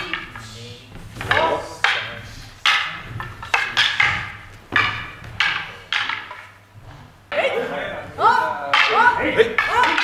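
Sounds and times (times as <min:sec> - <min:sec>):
wooden swords clacking: 0:00.0 - 0:07.8, 0:08.4 - 0:10.0.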